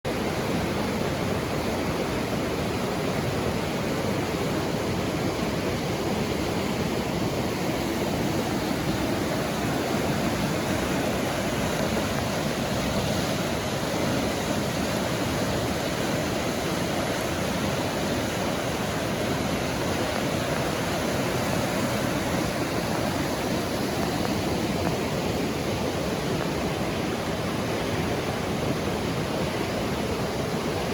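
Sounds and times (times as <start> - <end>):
river water rushing: 0.1 - 30.9.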